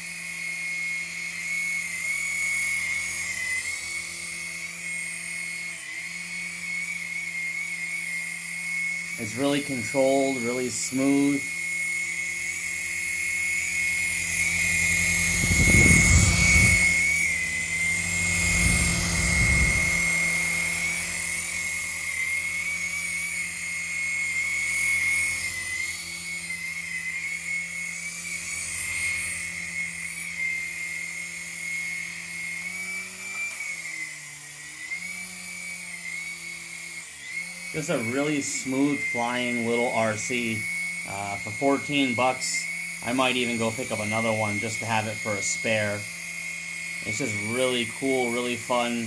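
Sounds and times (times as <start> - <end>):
toy helicopter rotor whine: 0.0 - 49.0.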